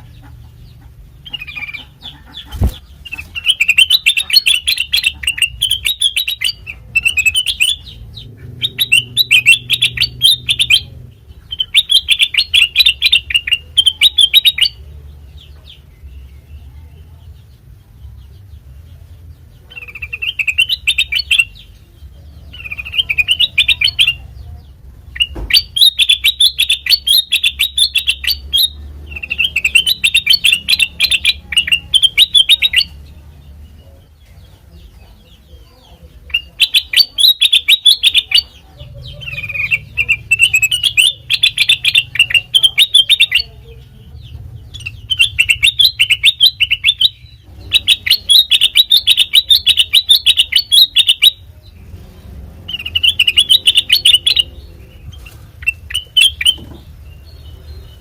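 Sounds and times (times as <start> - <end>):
bird chattering song: 0.0 - 58.0.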